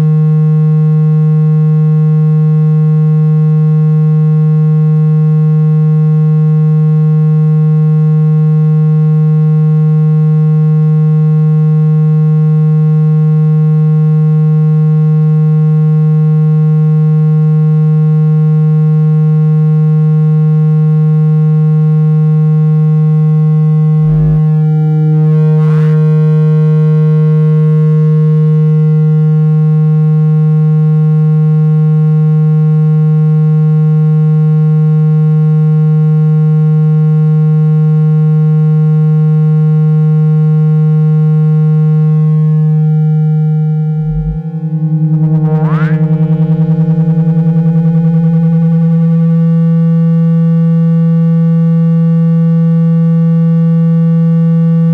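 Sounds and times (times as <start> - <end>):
low buzzing electronic tone: 0.0 - 33.0, 39.9 - 54.9.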